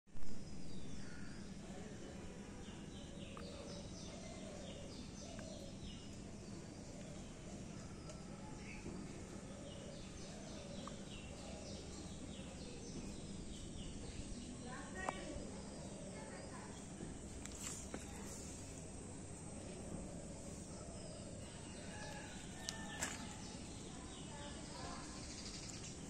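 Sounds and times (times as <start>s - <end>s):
steady low hum: 0.3s - 26.0s
birds chirping: 0.6s - 26.0s.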